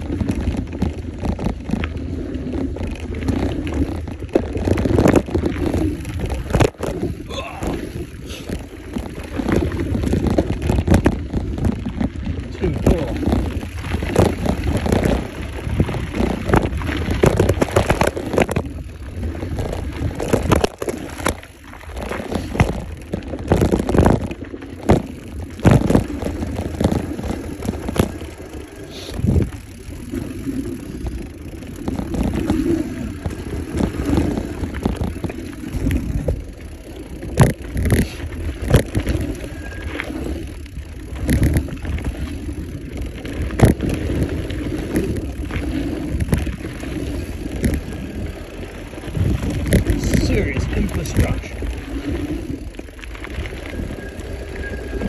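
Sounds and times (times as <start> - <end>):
bike clattering over bumps: 0.0 - 55.0
bike tyres rumbling over dirt: 0.0 - 55.0.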